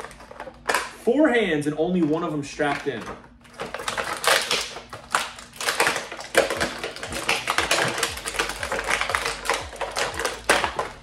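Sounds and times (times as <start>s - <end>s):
plastic packaging crinkling: 0.0s - 1.0s, 1.9s - 11.0s.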